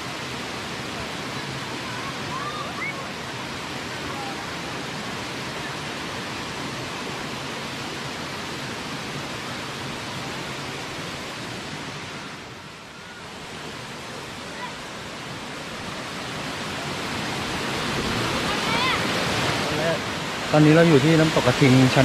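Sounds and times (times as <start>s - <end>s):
waterfall rushing water: 0.0s - 22.0s.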